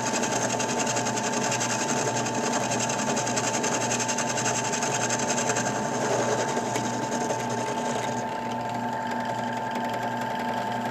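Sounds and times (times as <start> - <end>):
drill press motor whine: 0.0 - 10.9.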